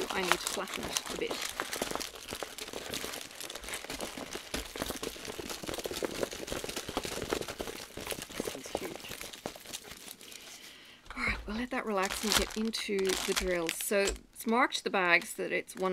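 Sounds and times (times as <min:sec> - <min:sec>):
plastic wrapping crinkling: 0:00.0 - 0:15.9.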